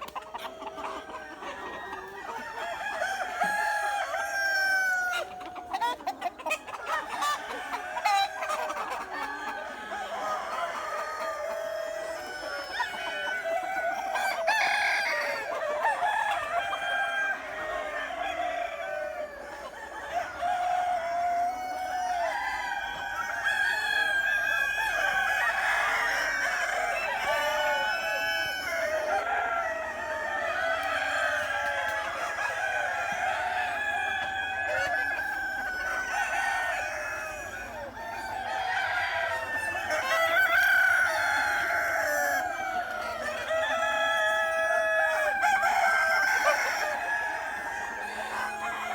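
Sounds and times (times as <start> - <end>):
chickens clucking: 0.0 - 48.9
roosters crowing: 0.0 - 48.9.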